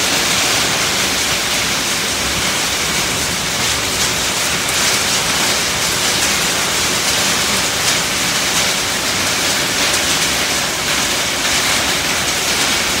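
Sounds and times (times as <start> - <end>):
heavy rain on a tin roof: 0.0 - 13.0.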